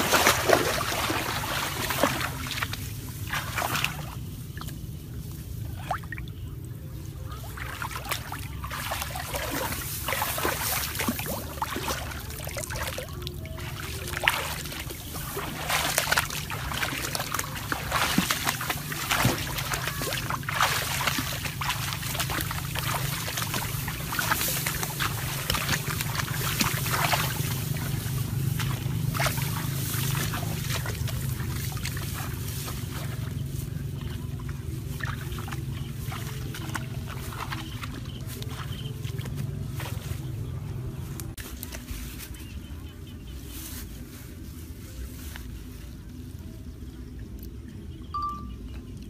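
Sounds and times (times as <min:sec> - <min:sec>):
low steady rumble: 0:00.0 - 0:49.0
water splashing in shallow water: 0:00.0 - 0:49.0.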